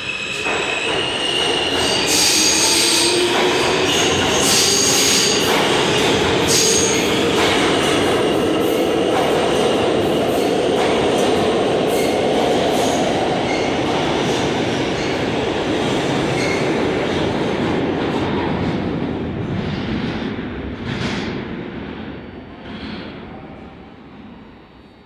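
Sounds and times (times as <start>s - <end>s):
train wheels rumbling on rail: 0.0s - 24.7s.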